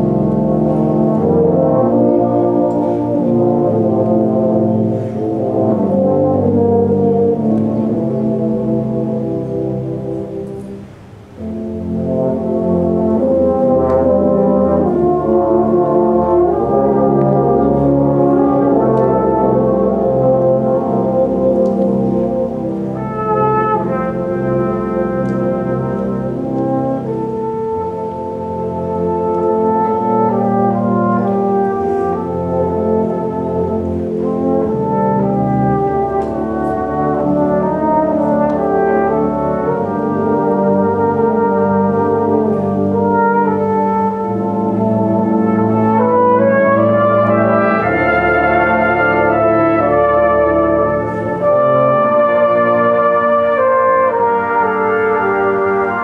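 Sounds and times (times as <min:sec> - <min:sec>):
brass band playing: 0:00.0 - 0:56.0
flugelhorn solo: 0:00.0 - 0:56.0.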